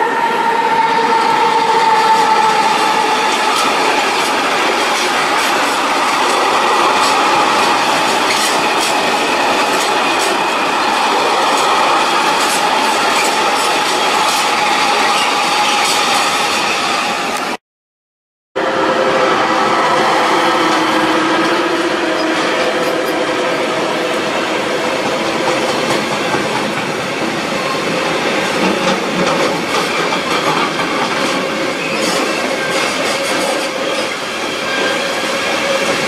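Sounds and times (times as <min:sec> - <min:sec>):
rumble of train wagons: 0:00.0 - 0:17.5, 0:18.6 - 0:36.0.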